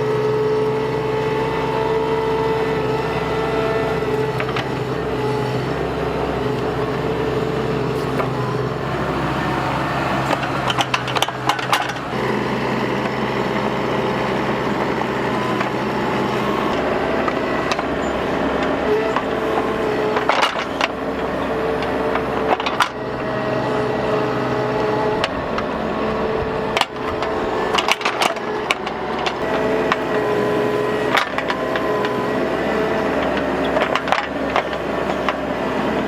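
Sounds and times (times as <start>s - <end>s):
excavator engine humming: 0.0s - 36.0s.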